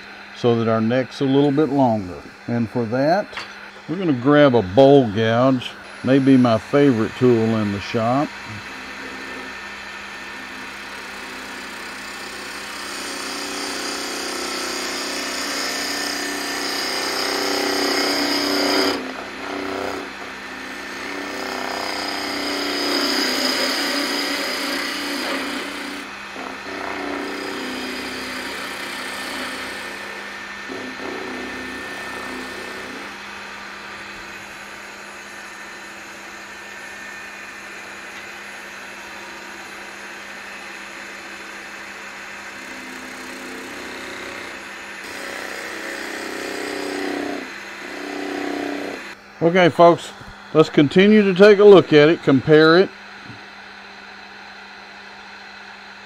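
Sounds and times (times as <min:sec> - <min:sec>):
gouge cutting spinning wood: 0:00.0 - 0:49.9
wood lathe humming: 0:00.0 - 0:56.0.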